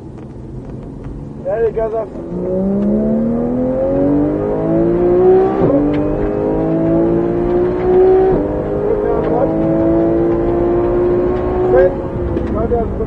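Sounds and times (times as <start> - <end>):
car engine at full throttle: 0.0 - 13.0
quick gear upshifts: 0.0 - 13.0.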